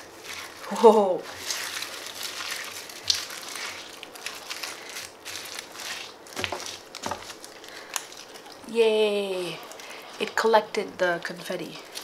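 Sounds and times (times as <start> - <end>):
foil confetti crinkling: 0.0 - 10.4.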